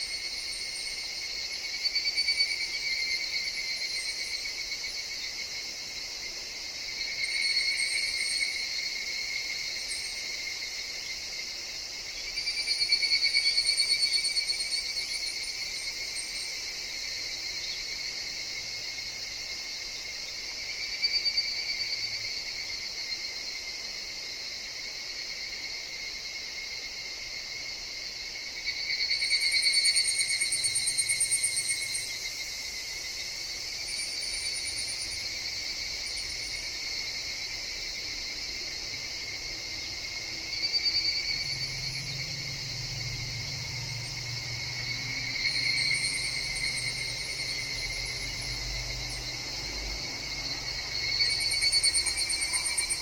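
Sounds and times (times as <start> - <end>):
cicadas shrill drone: 0.0 - 53.0.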